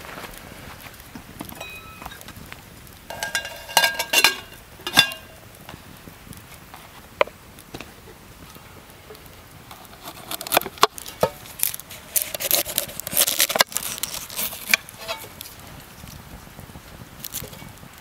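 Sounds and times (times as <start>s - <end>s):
onion skin crackling: 0.6s - 16.3s, 17.2s - 18.0s.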